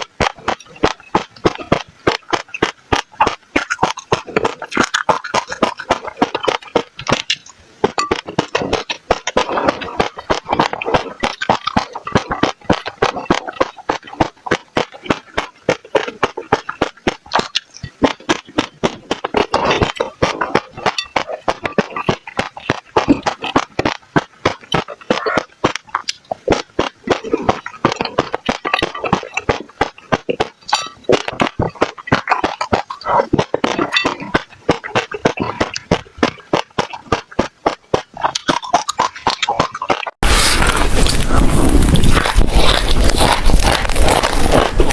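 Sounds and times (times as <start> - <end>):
seeds crunching between teeth: 0.0 - 44.9.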